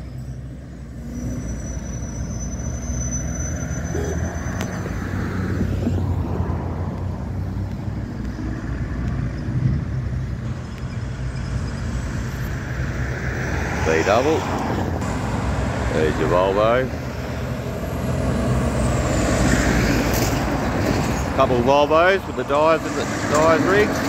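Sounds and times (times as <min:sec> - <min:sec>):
highway traffic passing: 0:00.0 - 0:24.0.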